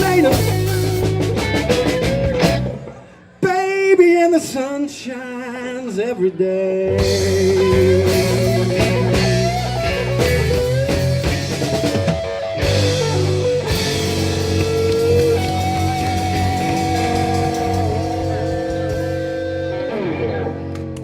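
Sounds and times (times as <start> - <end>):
lead electric guitar: 0.0 - 3.4, 6.4 - 21.0
electric blues band playing: 0.0 - 3.9, 6.0 - 21.0.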